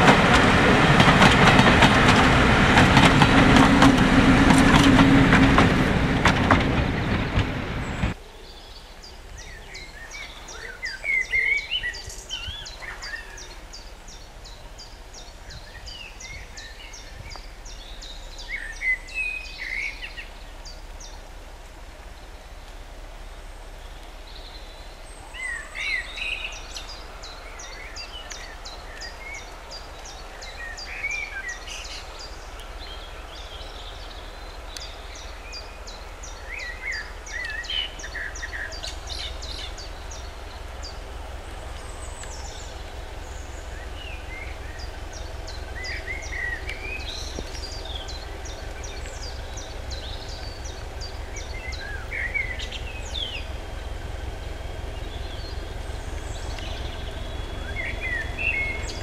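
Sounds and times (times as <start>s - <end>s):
train rumbling and clattering: 0.0s - 8.2s, 9.1s - 59.0s
birds ticking and chirping: 0.0s - 59.0s.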